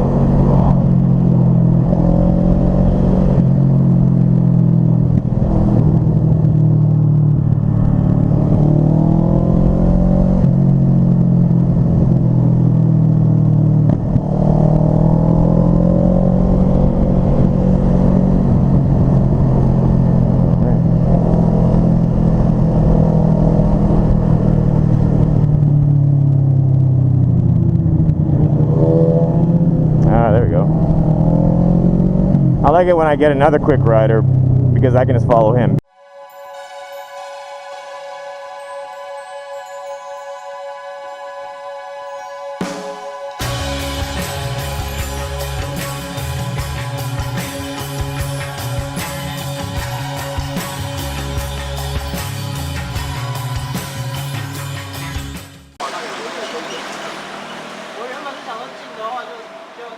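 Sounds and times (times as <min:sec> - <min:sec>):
motorcycle engine running: 0:00.0 - 0:35.7, 0:43.4 - 0:59.9.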